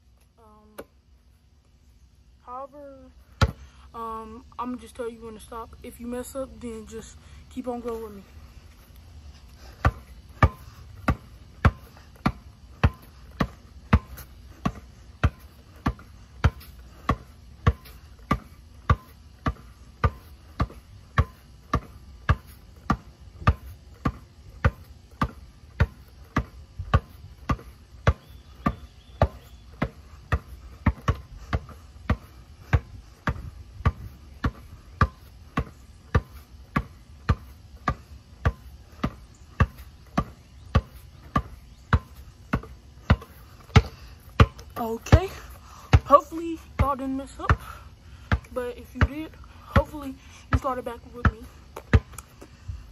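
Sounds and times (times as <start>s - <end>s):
basketball bouncing on hard ground: 2.5s - 3.7s, 4.6s - 52.9s.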